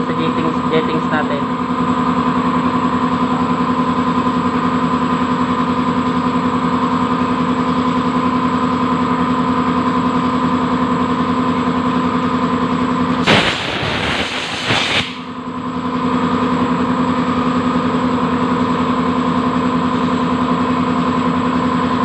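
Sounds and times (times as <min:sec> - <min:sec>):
motor humming steadily: 0:00.0 - 0:22.0.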